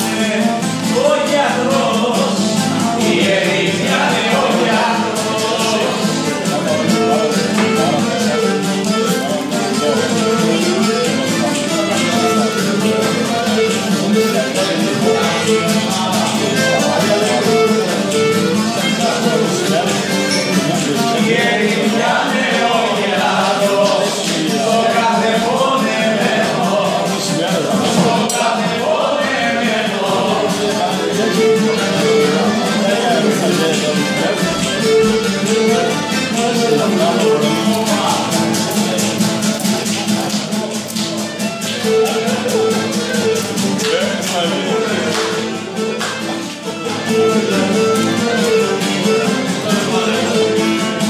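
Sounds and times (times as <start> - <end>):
person singing: 0.0 - 51.0
plucked lute strumming: 0.0 - 51.0.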